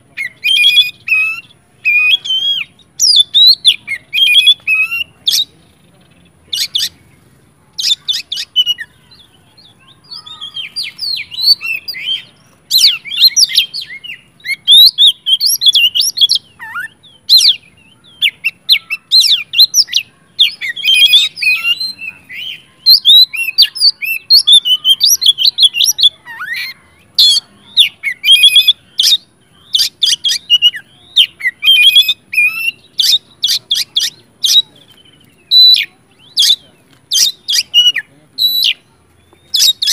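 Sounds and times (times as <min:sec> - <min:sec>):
bird singing whistled phrases: 0:00.1 - 0:05.5, 0:07.8 - 0:39.9.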